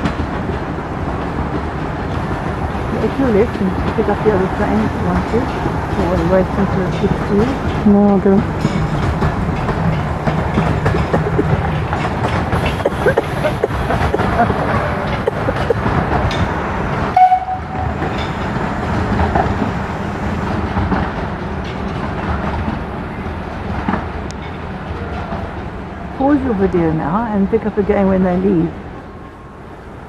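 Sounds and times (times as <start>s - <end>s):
wheels clicking over rails: 0.0s - 26.8s
train rumbling: 0.0s - 30.0s.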